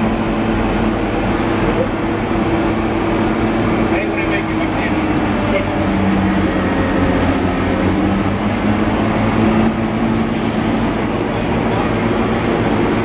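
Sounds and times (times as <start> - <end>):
loud mechanical drone: 0.0 - 13.0.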